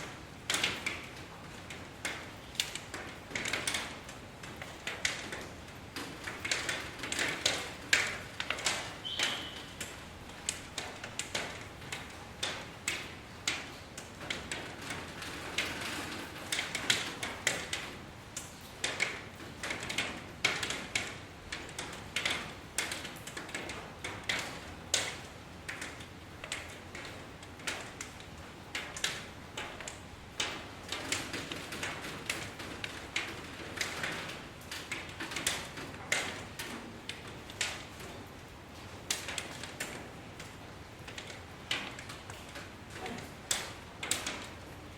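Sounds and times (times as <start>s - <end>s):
raindrops tapping on hard surface: 0.0s - 44.9s
soft rain patter: 0.0s - 44.9s.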